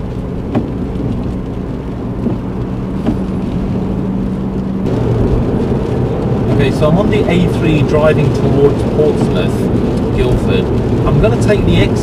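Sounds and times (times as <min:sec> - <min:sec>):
car engine and tyre hum: 0:00.0 - 0:12.0.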